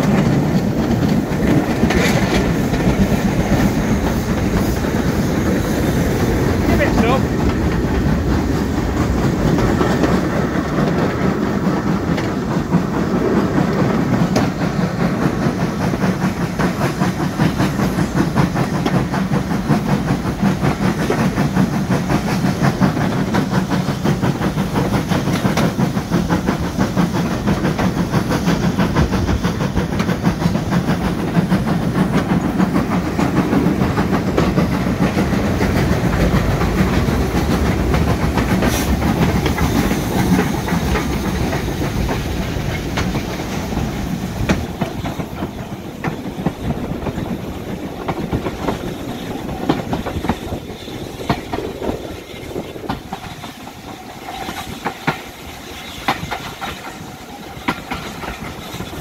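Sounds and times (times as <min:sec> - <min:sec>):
steam locomotive exhaust: 0:00.0 - 0:59.0
train wheels clattering over rail joints: 0:00.0 - 0:59.0.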